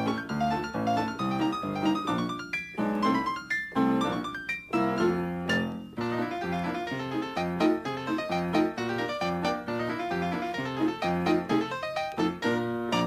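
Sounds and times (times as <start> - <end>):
lively solo piano music: 0.0 - 13.0.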